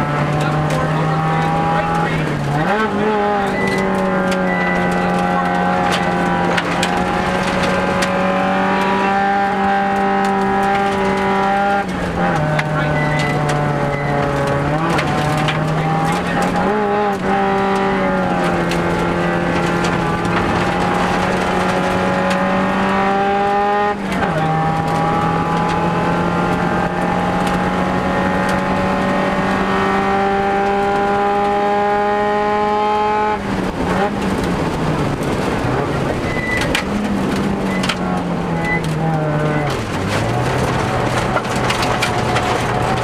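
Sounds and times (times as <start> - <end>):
tyre and gravel noise: 0.0 - 31.6, 33.4 - 43.0
rally car engine at full throttle: 0.0 - 43.0.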